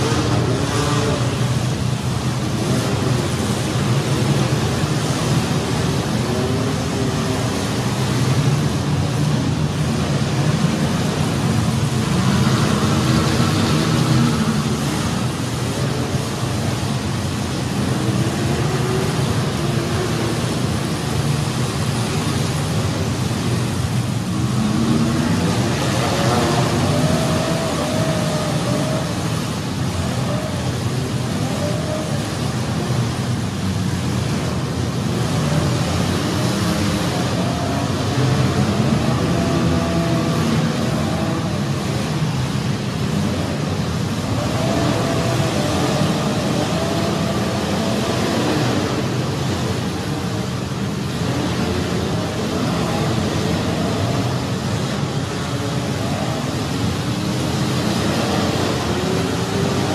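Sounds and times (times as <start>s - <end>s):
car engines revving: 0.0s - 59.9s
wavering engine whine: 0.0s - 59.9s.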